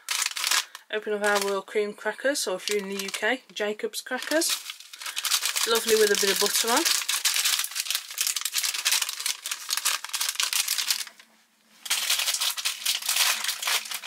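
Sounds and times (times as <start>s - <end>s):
plastic wrapper tearing and crinkling: 0.0s - 1.6s, 2.6s - 3.3s, 4.1s - 14.0s.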